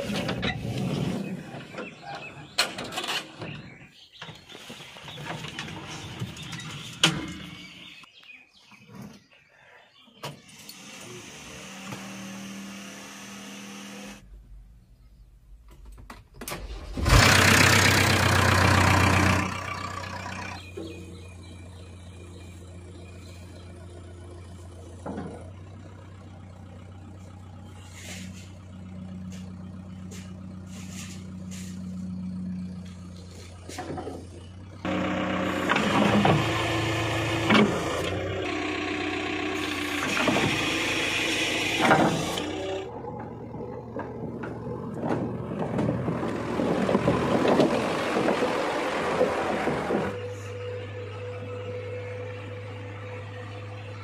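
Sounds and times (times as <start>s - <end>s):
diesel engine starting and revving: 0.0s - 4.1s, 10.4s - 54.0s.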